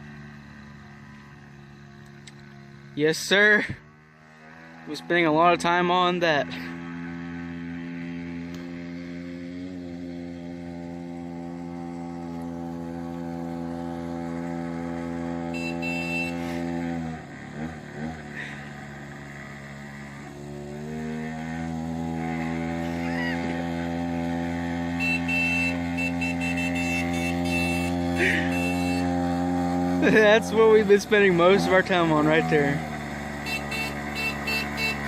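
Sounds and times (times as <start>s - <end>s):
small gas engine running: 0.0s - 35.0s.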